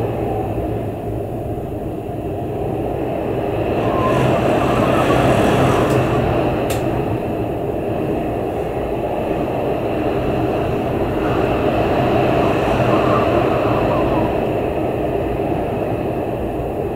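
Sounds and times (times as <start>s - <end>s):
heavy storm wind: 0.0s - 16.9s.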